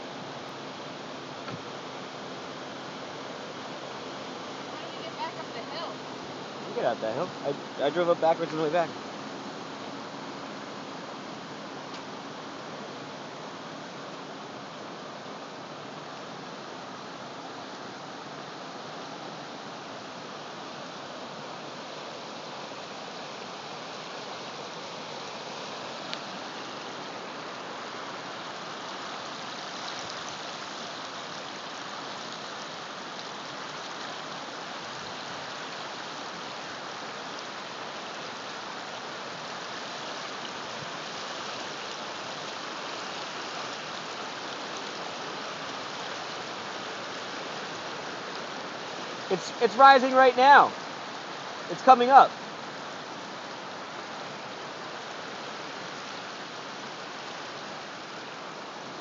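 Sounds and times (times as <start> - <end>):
floodwater rushing: 0.0 - 59.0.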